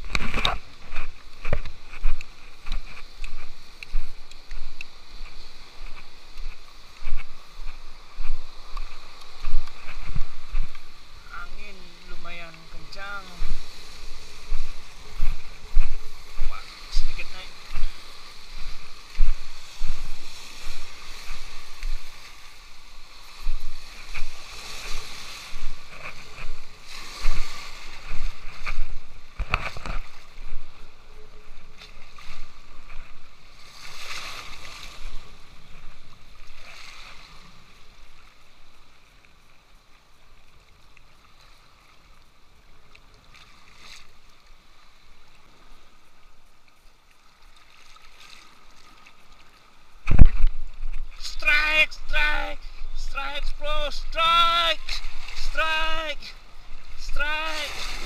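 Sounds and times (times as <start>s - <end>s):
waves splashing on rocks: 0.0s - 38.7s, 47.5s - 58.0s.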